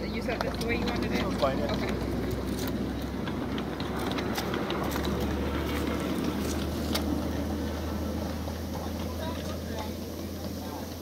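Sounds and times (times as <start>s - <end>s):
miniature train rumbling and humming: 0.0s - 11.0s
wheels clicking: 0.0s - 11.0s.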